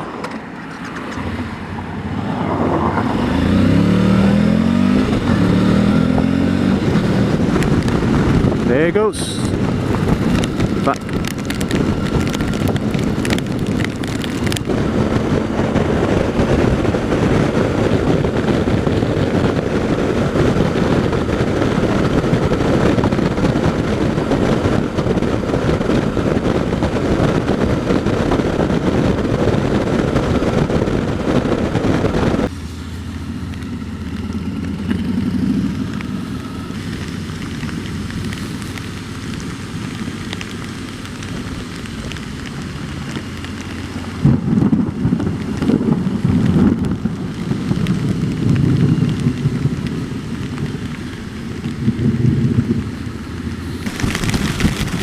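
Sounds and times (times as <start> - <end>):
wind rush on microphone: 0.0 - 55.0
motorcycle engine running: 3.1 - 55.0.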